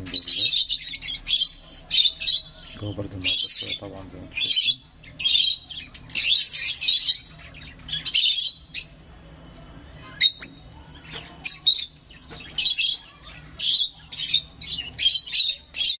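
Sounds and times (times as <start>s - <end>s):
bird chick chirping: 0.0s - 16.0s.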